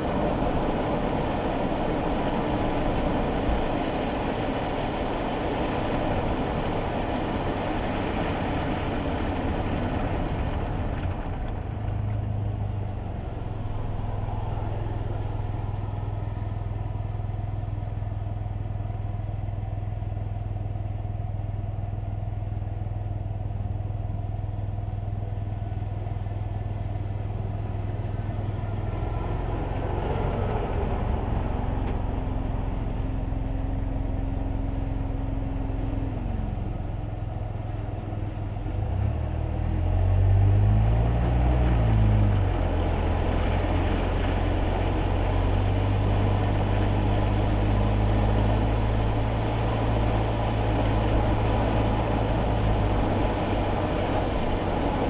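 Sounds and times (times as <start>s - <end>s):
car engine drone: 0.0s - 55.0s
road and tyre noise: 0.0s - 55.0s.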